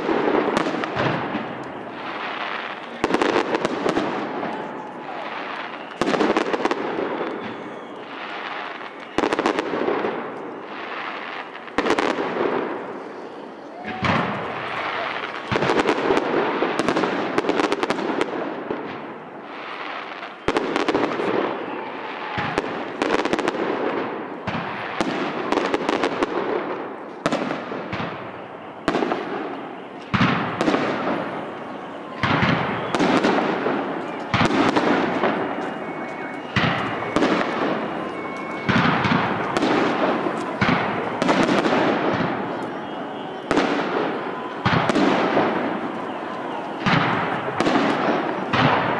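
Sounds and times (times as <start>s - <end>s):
firework crackle: 0.0s - 48.9s.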